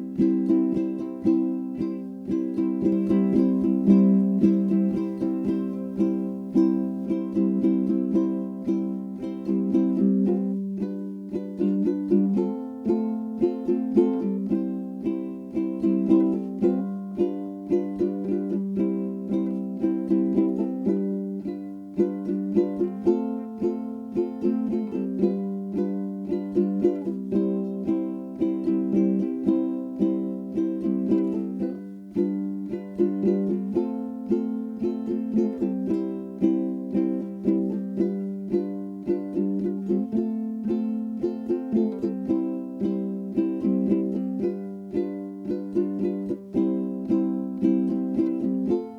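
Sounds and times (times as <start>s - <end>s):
ukulele strumming: 0.0s - 48.9s.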